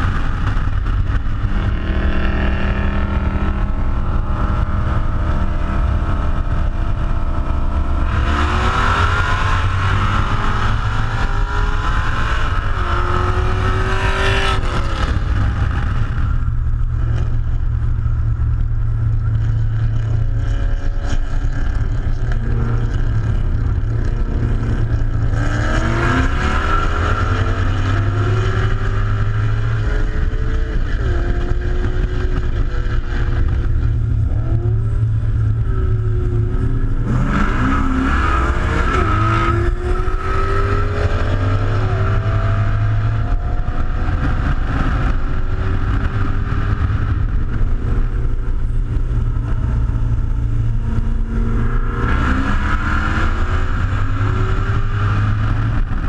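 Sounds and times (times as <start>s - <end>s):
car engine revving: 0.0s - 56.0s
road noise: 0.0s - 56.0s
wind noise: 0.0s - 56.0s.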